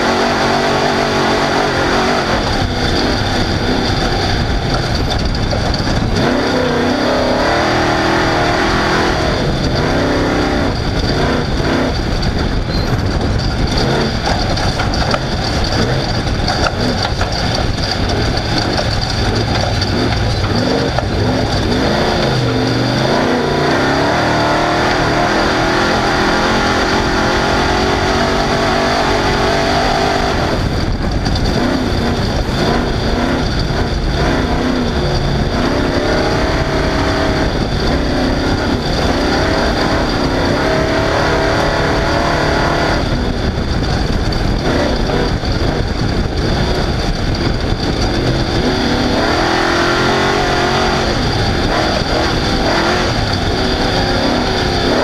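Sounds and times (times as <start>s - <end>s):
heavy rumble of vehicle and terrain: 0.0s - 55.0s
truck engine revving hard: 0.0s - 55.0s.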